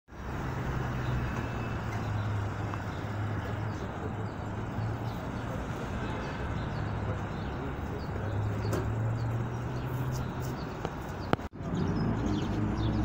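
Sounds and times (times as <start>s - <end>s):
road traffic: 0.1s - 13.0s.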